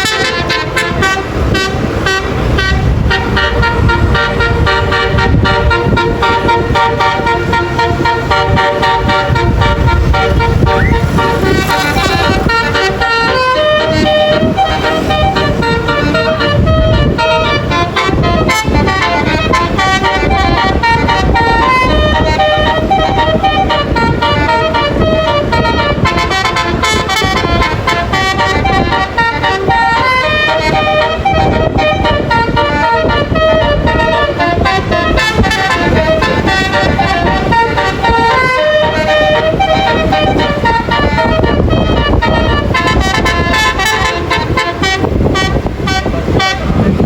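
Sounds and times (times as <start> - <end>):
multi-tone bus air horn melody: 0.0 - 47.0
road and engine noise: 0.0 - 47.0.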